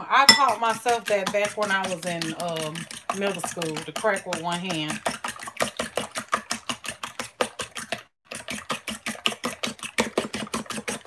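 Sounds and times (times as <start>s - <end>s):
fork beating eggs in bowl: 0.2s - 11.0s.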